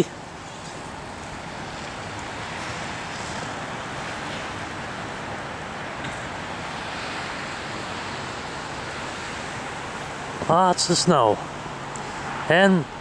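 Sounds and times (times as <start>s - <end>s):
rushing outdoor noise: 0.0s - 13.0s.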